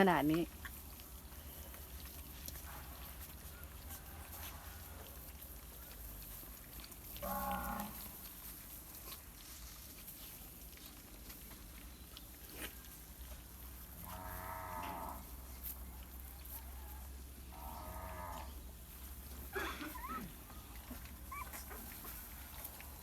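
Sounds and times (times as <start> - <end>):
puppies eating: 0.0 - 14.0, 14.7 - 23.0.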